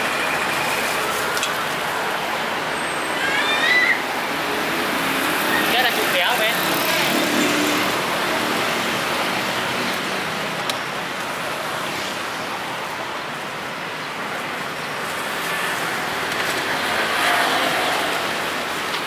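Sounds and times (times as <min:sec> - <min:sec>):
passing traffic hiss: 0:00.0 - 0:19.0.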